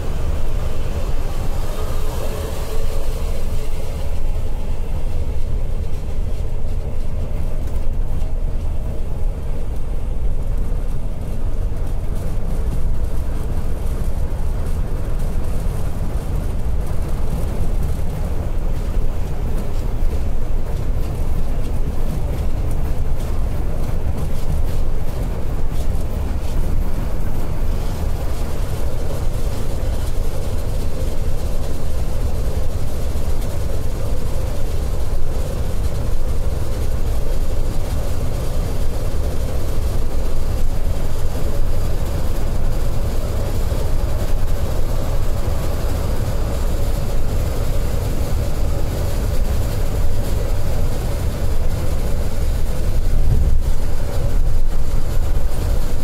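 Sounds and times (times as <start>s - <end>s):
coach engine drone: 0.0s - 56.0s
road noise: 0.0s - 56.0s.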